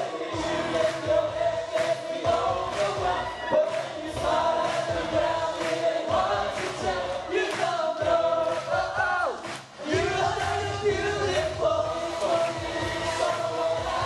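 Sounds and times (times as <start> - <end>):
loud backing track: 0.0 - 14.0.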